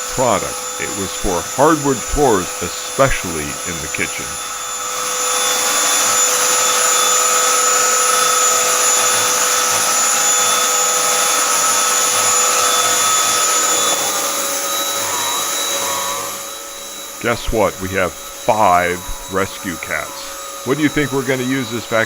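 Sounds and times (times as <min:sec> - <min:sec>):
stick vacuum cleaner running: 0:00.0 - 0:22.0.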